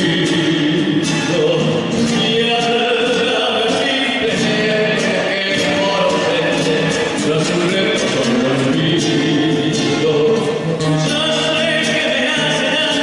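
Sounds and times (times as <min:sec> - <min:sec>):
folk song with singing voices: 0:00.0 - 0:13.0.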